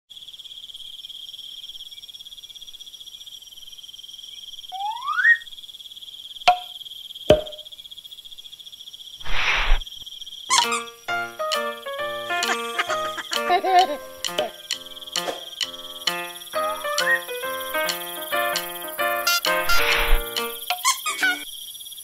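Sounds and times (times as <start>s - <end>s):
crickets chirping: 0.1s - 22.0s.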